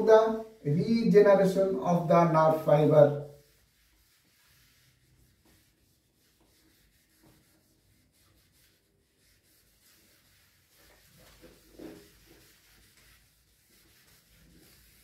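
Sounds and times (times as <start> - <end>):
eraser rubbing on whiteboard: 2.6 - 15.0.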